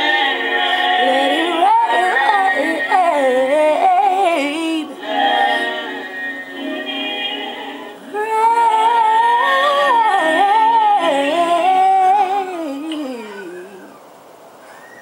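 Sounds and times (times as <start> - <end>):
person singing gospel run: 0.0 - 13.9.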